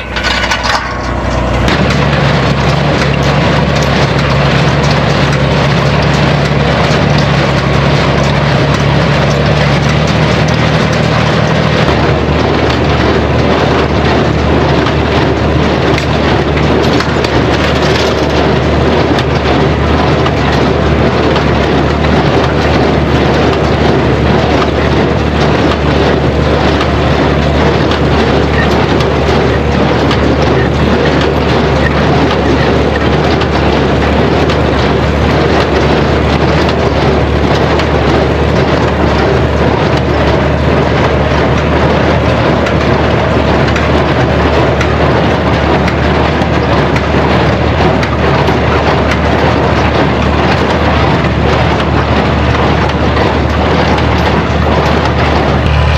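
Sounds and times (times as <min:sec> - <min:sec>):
baler working: 0:00.0 - 0:55.9
tractor running under load: 0:00.0 - 0:55.9.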